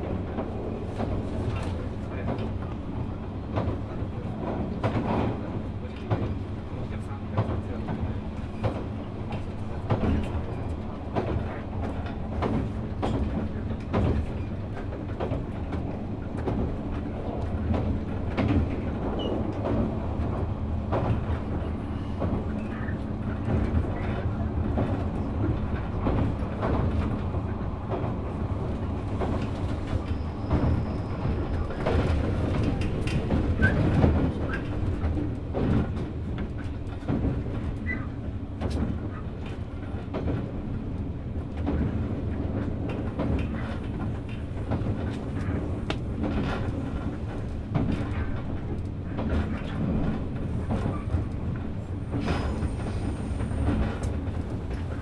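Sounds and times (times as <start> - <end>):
train low rumble and hum: 0.0 - 55.0.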